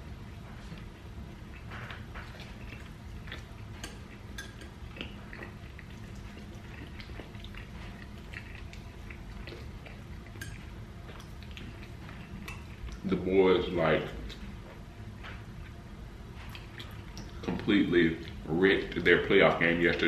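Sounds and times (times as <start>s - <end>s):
steady low hum: 0.0s - 20.0s
wet chewing and lip smacking: 0.2s - 13.1s, 14.1s - 18.5s.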